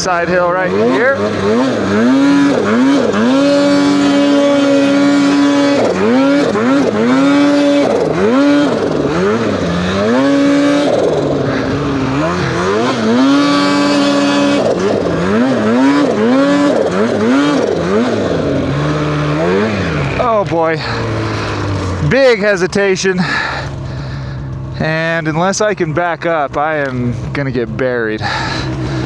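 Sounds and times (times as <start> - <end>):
snowmobile engine revving: 0.0 - 29.0.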